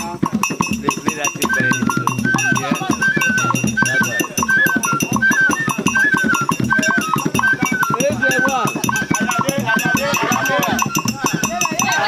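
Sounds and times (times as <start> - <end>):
drum and percussion beat: 0.0 - 12.0.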